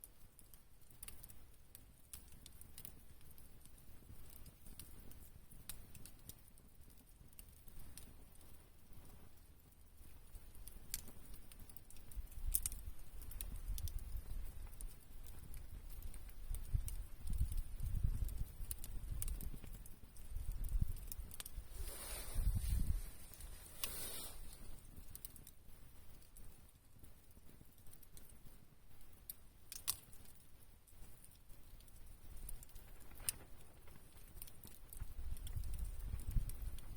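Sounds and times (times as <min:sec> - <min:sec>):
campfire crackling: 0:00.0 - 0:36.9
fire popping: 0:00.0 - 0:36.9.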